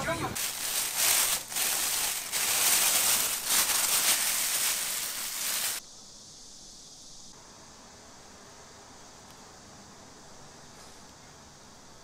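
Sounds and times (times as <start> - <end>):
faint steady hiss: 0.1 - 12.0.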